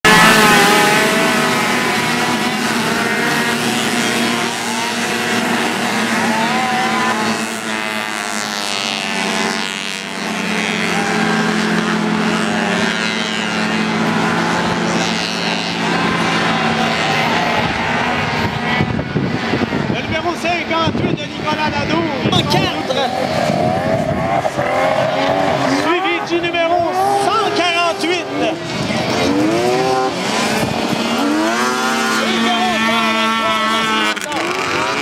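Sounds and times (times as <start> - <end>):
snowmobile engines revving: 0.0 - 35.0.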